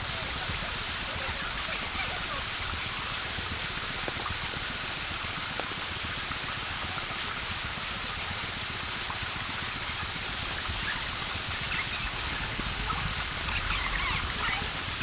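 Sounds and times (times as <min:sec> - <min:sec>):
mountain stream running water: 0:00.0 - 0:15.0.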